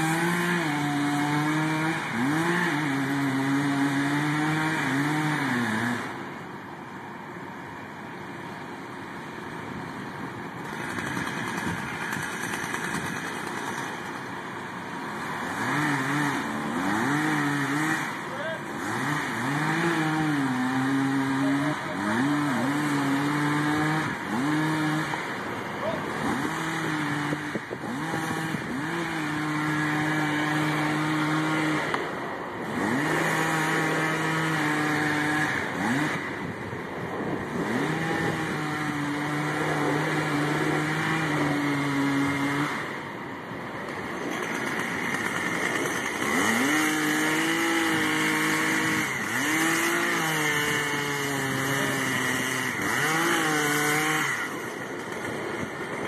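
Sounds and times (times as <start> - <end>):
chainsaw cutting wood: 0.0 - 6.5, 10.4 - 43.2, 43.8 - 56.0.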